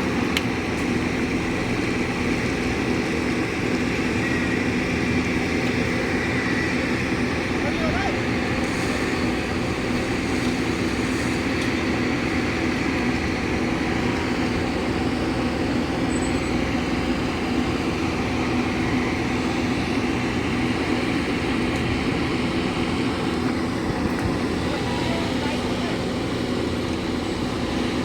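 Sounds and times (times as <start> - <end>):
heavy machinery rumbling: 0.0 - 28.0.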